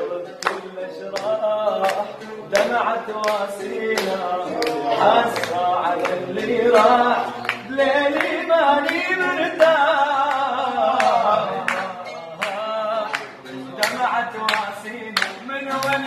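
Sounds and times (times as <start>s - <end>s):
man singing: 0.0s - 16.0s.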